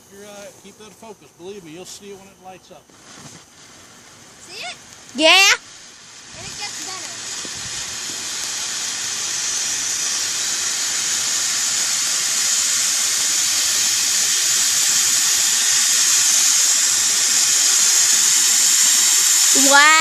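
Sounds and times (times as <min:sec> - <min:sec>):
firework fountain hissing: 0:00.0 - 0:20.0.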